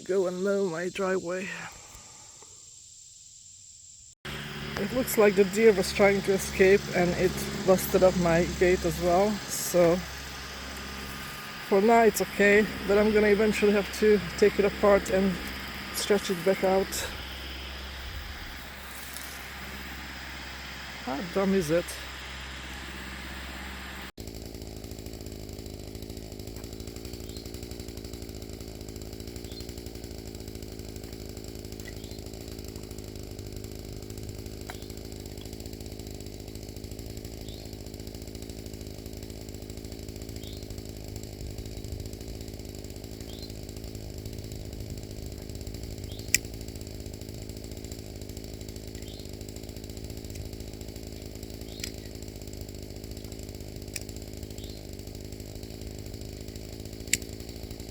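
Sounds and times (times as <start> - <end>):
small gasoline engine running: 0.0 - 2.4, 4.2 - 57.9.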